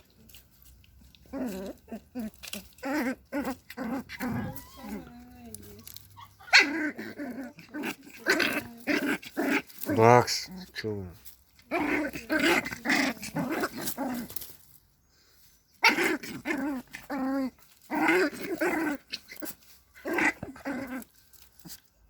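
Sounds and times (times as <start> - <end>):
dog growling and snarling: 1.1 - 5.8, 6.5 - 14.5, 15.8 - 21.8.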